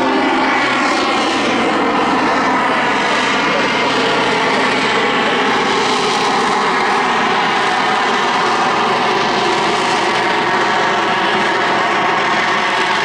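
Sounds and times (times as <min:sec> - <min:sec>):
aerobatic plane droning: 0:00.0 - 0:13.0.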